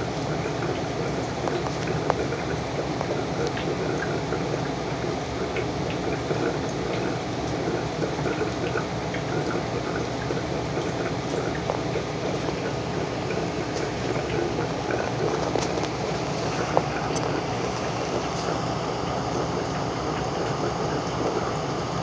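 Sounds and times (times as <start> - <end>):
water drips and pops: 0.0 - 21.7
aquarium water bubbling: 0.0 - 22.0.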